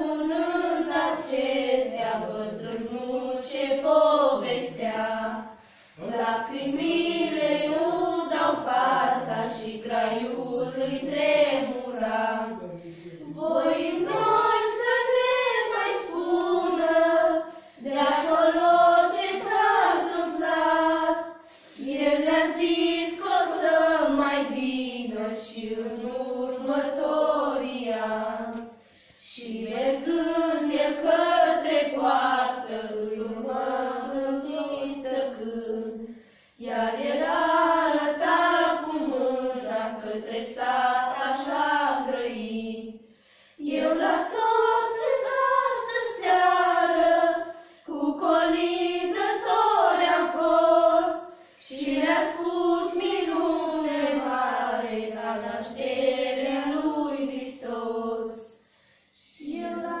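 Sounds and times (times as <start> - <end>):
girls singing a carol in unison: 0.0 - 60.0.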